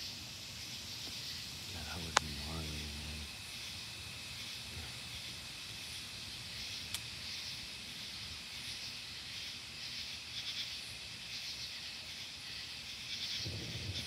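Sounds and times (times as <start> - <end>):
high hiss of night ambience: 0.0 - 14.0.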